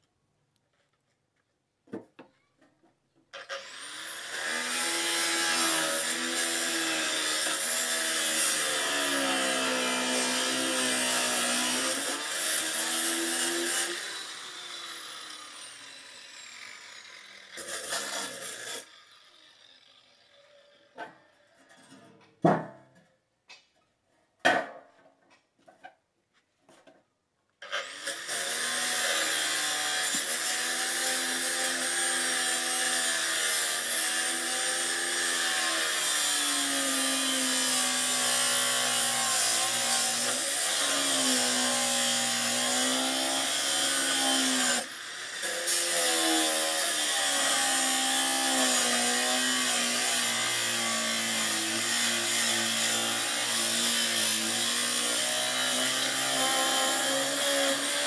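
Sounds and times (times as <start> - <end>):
angle grinder cutting steel: 3.4 - 21.9, 27.6 - 58.0.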